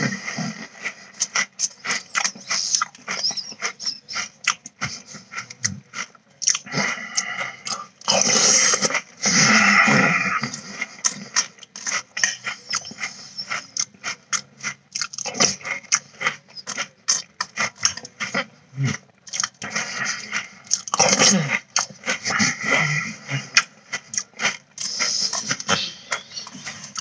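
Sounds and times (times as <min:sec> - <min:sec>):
crunchy cereal chewing: 0:00.0 - 0:27.0.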